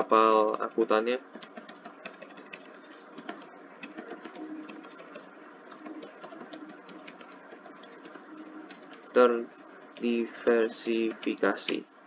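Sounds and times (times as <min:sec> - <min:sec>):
keyboard typing: 0:01.2 - 0:09.2, 0:09.9 - 0:11.8.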